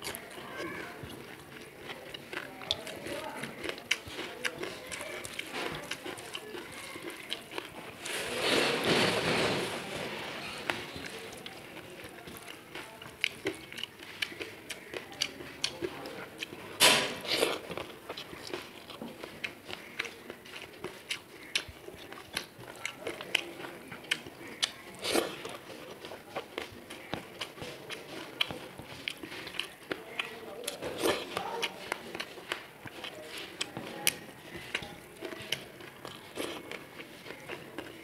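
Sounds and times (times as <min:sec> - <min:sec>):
close chewing with wet smacks: 0:00.0 - 0:08.2, 0:10.6 - 0:38.0.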